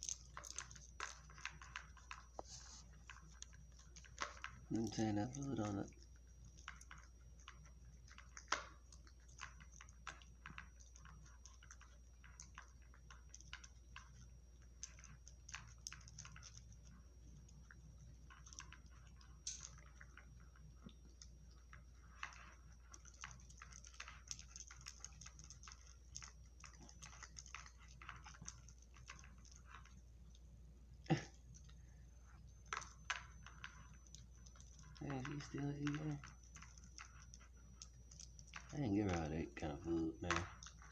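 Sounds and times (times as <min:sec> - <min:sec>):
dog chewing food: 0:00.0 - 0:40.9.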